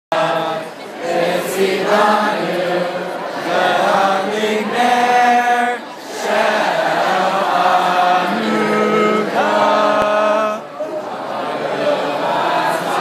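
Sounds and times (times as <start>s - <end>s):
crowd chanting in unison: 0.1s - 13.0s.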